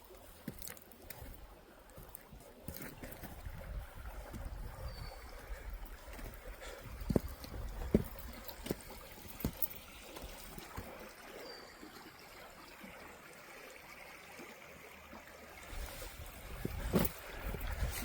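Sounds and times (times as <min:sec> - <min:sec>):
stream trickling: 0:00.0 - 0:18.0.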